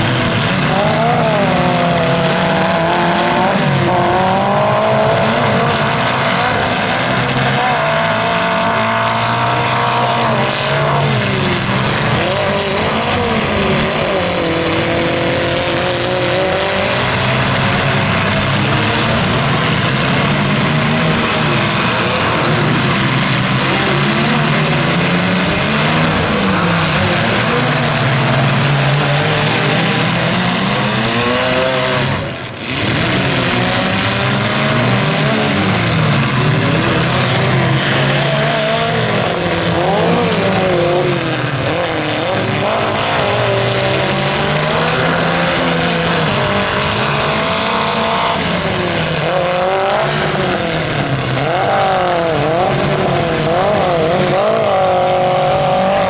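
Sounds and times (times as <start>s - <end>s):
car engines revving: 0.0s - 56.0s
dense noisy wash: 0.0s - 56.0s.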